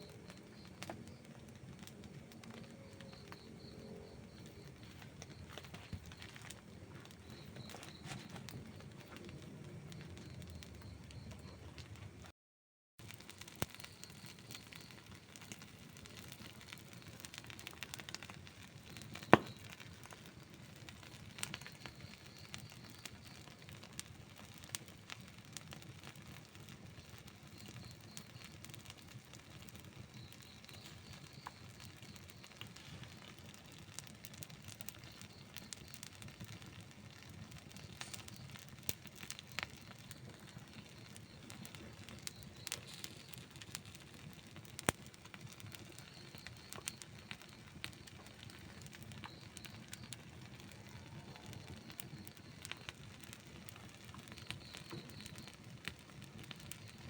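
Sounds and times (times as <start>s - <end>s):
campfire flames rushing: 0.0s - 12.3s, 13.0s - 57.0s
fire crackling and popping: 0.0s - 12.3s, 13.0s - 57.0s.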